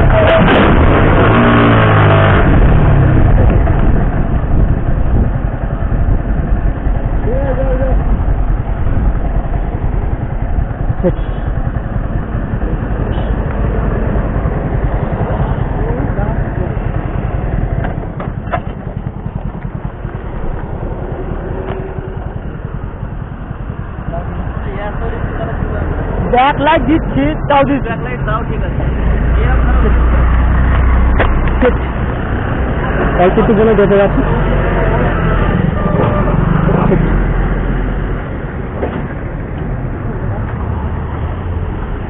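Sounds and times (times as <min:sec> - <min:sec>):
road and wind noise: 0:00.0 - 0:42.0
vehicle engine revving: 0:00.0 - 0:42.0.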